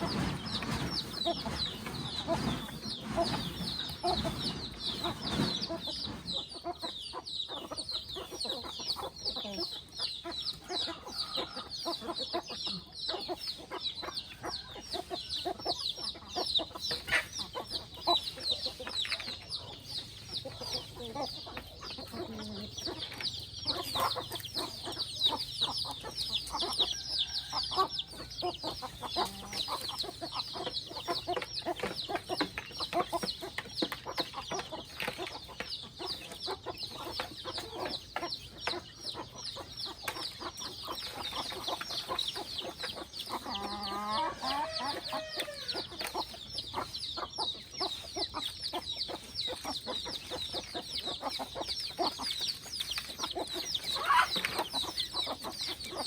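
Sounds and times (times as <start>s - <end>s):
chickens clucking and calling: 0.0s - 56.0s.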